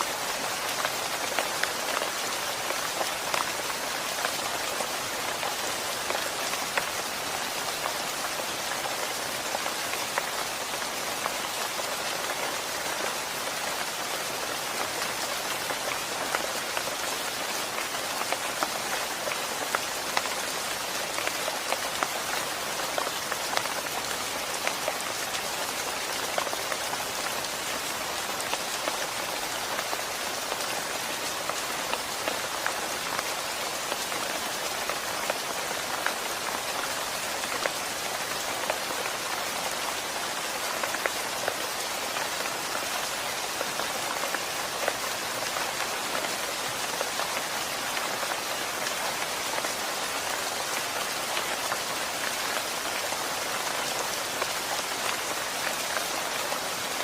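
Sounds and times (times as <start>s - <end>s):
rain falling: 0.0s - 57.0s
raindrops ticking on a surface: 0.0s - 57.0s.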